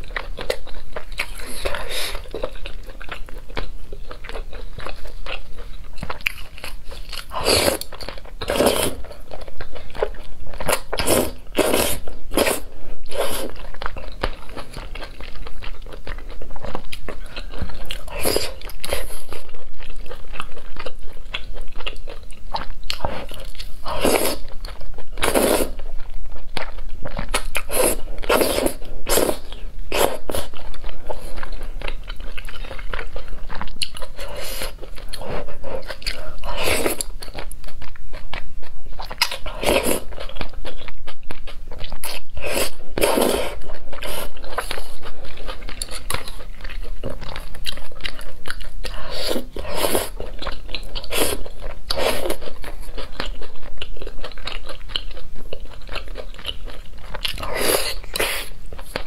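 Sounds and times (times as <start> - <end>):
chewing: 0.0 - 59.0.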